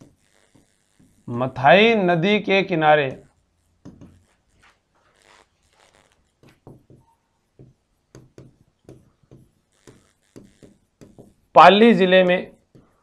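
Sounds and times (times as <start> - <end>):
marker writing on whiteboard: 0.0 - 1.2, 3.0 - 13.0.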